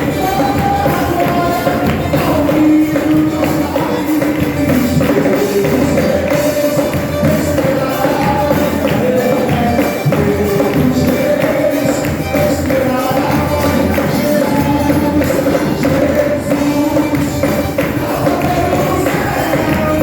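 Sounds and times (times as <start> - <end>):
church band playing: 0.0 - 20.0
person singing melody: 0.0 - 20.0
tambourine shaking: 0.0 - 20.0.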